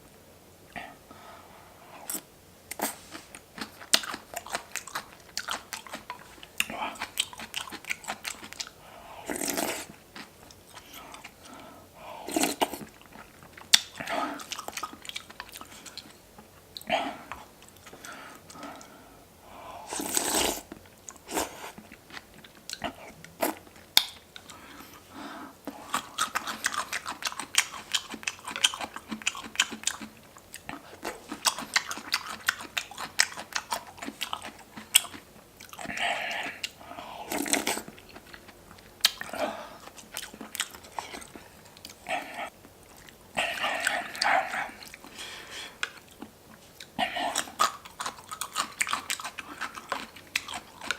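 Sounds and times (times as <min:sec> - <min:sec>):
crunchy chewing and biting: 0:02.1 - 0:11.6, 0:12.3 - 0:19.0, 0:25.6 - 0:50.9.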